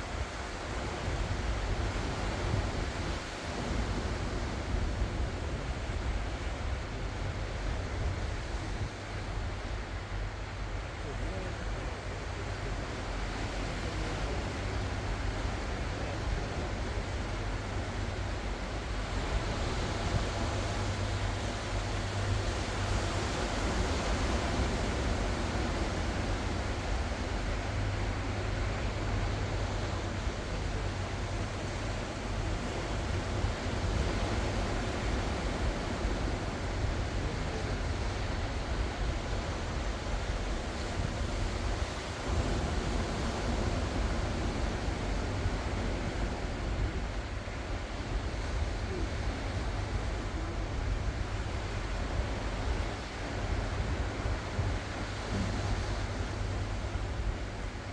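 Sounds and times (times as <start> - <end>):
waves breaking: 0.0 - 57.9.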